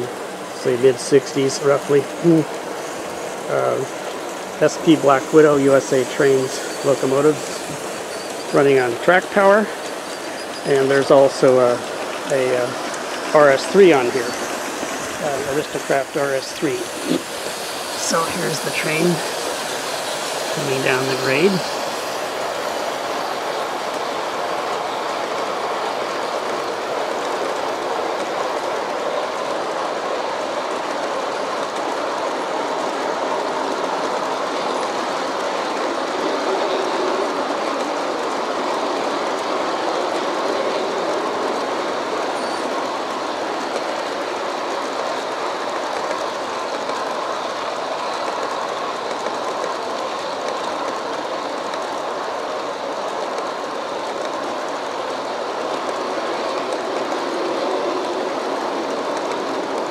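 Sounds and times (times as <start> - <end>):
model train wheels on rails: 0.0 - 59.9.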